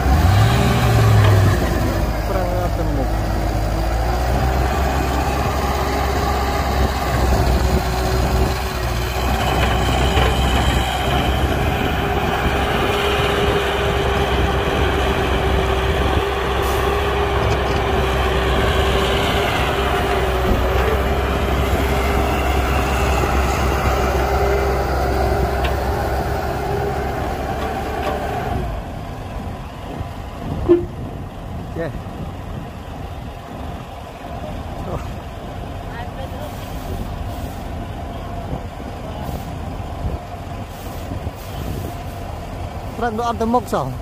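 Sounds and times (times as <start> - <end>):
diesel machinery engine rumble: 0.0 - 44.0.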